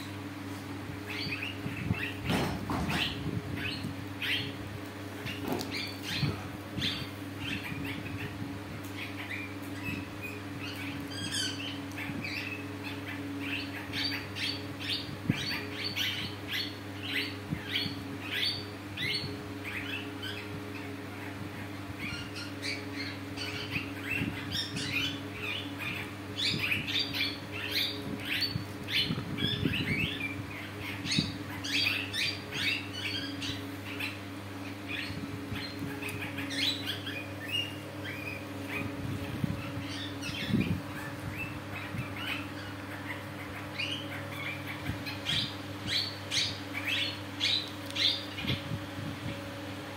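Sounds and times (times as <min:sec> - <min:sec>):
parakeets chirping: 0:00.0 - 0:49.9
steady low hum: 0:00.0 - 0:49.9.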